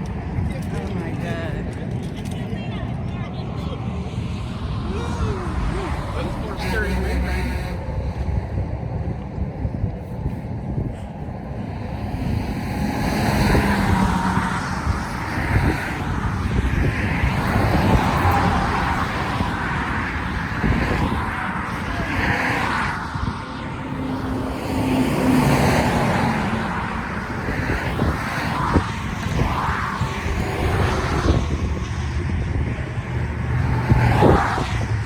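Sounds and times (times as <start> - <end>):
cars passing: 0.0 - 35.0
low traffic rumble: 0.0 - 35.0.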